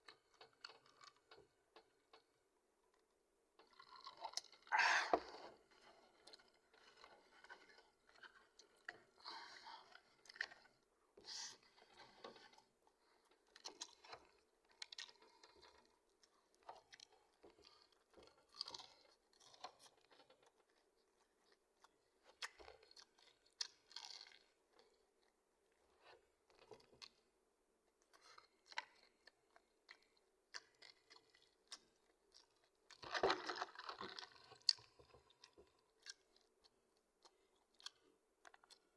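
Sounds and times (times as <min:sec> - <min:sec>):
person chewing and crunching: 0:00.0 - 0:02.2, 0:03.6 - 0:10.8, 0:13.4 - 0:27.2, 0:28.0 - 0:38.9.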